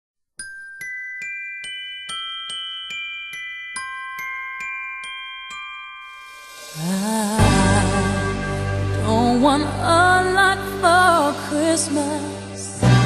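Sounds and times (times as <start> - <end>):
bell-like notes: 0.4 - 11.5.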